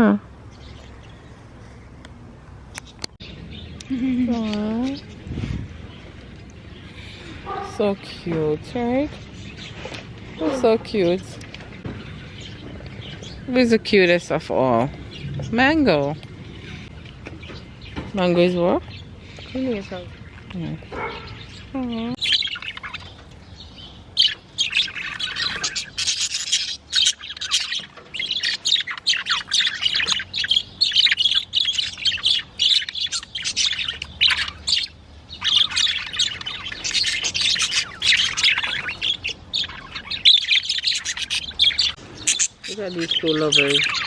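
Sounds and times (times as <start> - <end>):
budgerigars chattering: 5.8 - 44.0.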